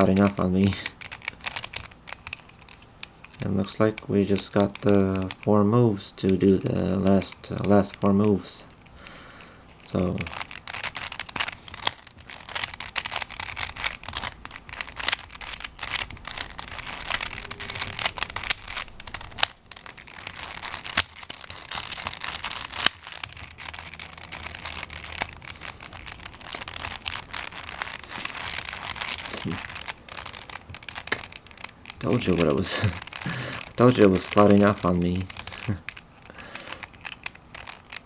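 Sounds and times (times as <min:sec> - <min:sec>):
puzzle cube clicking and rattling: 0:00.0 - 0:38.0.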